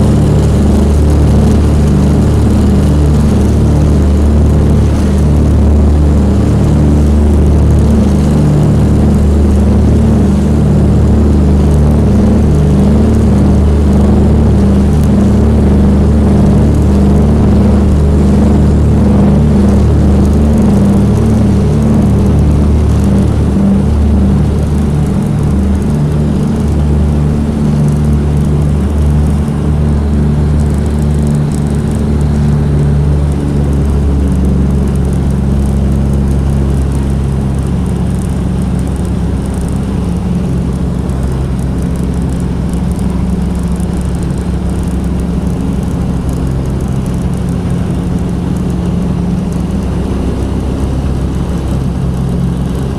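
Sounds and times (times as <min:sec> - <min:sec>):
piston aircraft engines droning: 0:00.0 - 0:52.9.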